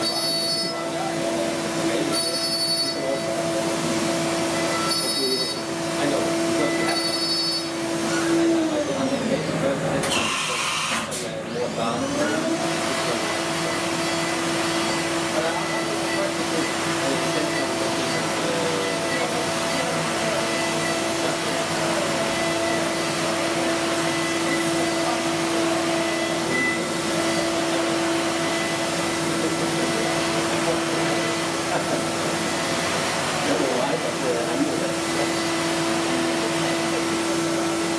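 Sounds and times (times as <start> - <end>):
milling machine spindle whine: 0.0 - 37.9.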